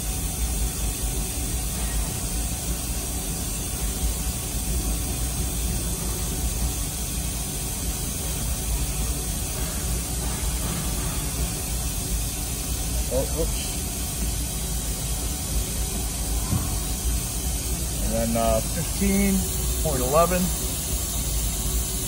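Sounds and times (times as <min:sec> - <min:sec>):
machinery hiss and rumble: 0:00.0 - 0:22.0.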